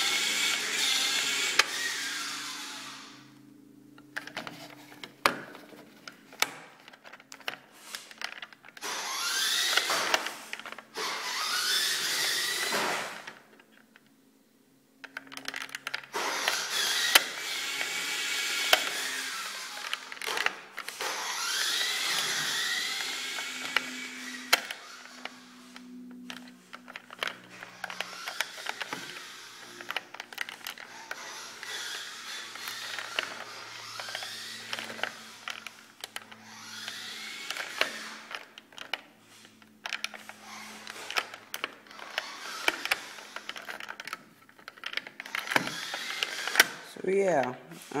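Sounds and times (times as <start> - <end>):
small electric motors whining: 0.0 - 13.5, 15.1 - 48.0.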